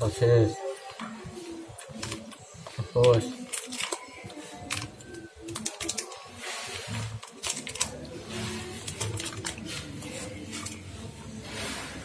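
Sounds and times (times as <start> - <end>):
plastic spoon scraping container: 2.0 - 12.0.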